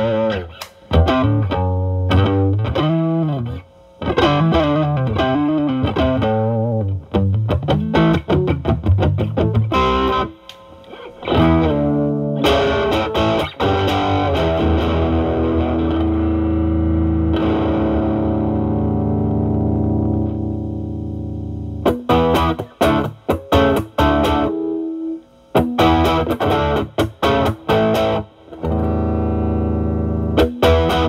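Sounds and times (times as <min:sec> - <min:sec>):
overdriven electric guitar: 0:00.0 - 0:31.0.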